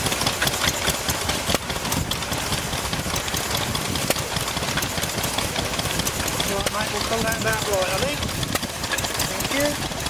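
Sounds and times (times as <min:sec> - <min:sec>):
clicks and rattles: 0:00.0 - 0:10.0
stationary engine running: 0:00.0 - 0:10.0.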